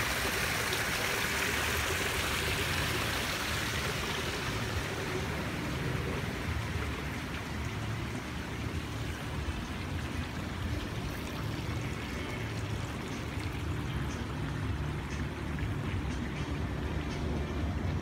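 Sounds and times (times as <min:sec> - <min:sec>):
water trickling in stream: 0:00.0 - 0:18.0.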